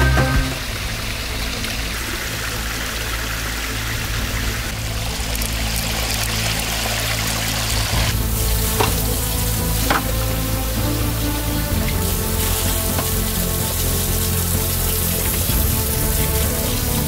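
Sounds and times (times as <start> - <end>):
stream water running over rocks: 0.0 - 17.0.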